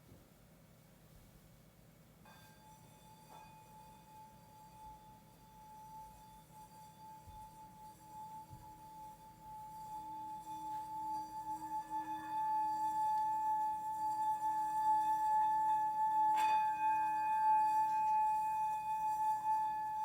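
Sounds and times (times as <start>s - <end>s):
singing bowl ringing: 2.3s - 20.0s.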